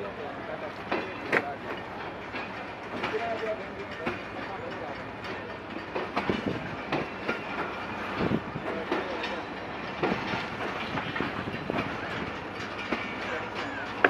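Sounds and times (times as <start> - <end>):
train coaches rumbling past: 0.0 - 14.0
wheels knocking on track: 2.3 - 14.0.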